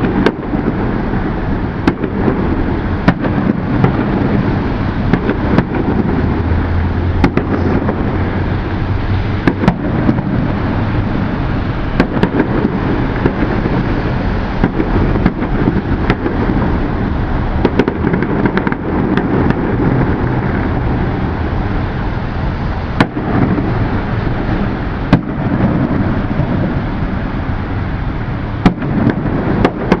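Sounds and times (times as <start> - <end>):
fireworks booming: 0.0 - 30.0
fireworks sharp cracks: 0.0 - 30.0.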